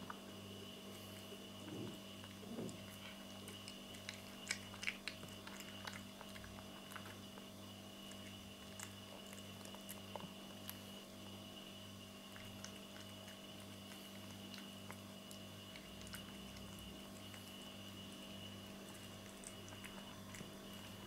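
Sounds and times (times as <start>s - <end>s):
cat chewing food: 0.0s - 21.0s
faint steady hum: 0.0s - 21.0s.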